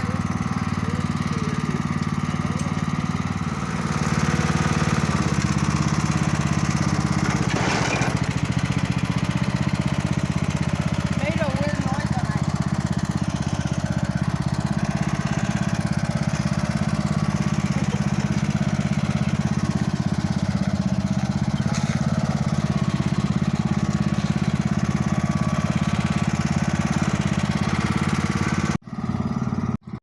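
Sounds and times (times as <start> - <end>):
small engine puttering: 0.0 - 30.0.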